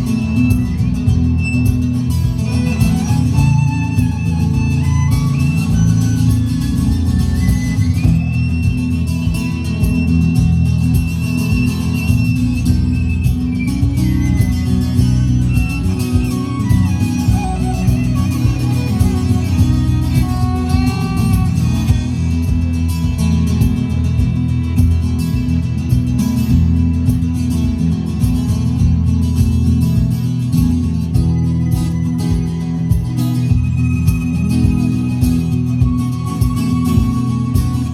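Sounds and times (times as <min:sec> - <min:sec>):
guitar music: 0:00.0 - 0:37.9
low accompaniment: 0:00.0 - 0:37.9.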